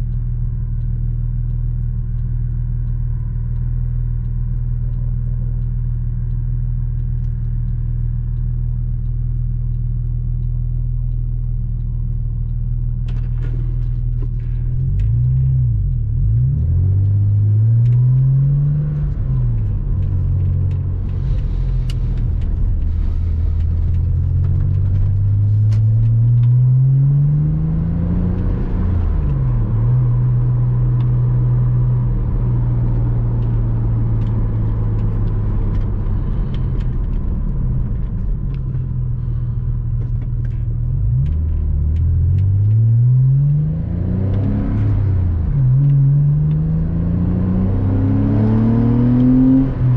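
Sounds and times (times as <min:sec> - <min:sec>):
car engine accelerating through gears: 0:00.0 - 0:49.9
road noise: 0:00.0 - 0:49.9.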